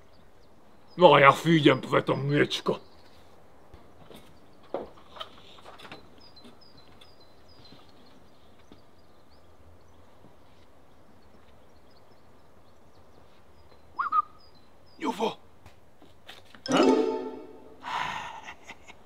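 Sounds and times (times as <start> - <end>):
small birds chirping: 0.0 - 15.6.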